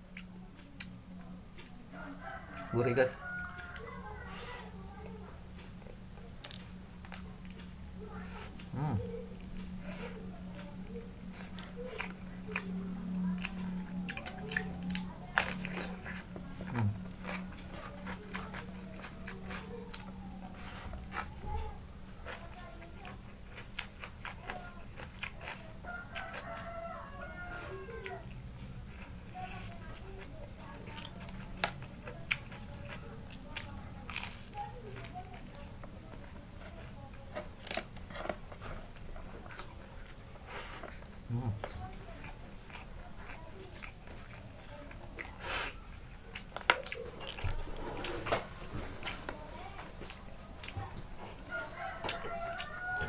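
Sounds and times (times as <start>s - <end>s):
chewing and lip smacking: 0.1s - 47.7s, 48.8s - 53.0s.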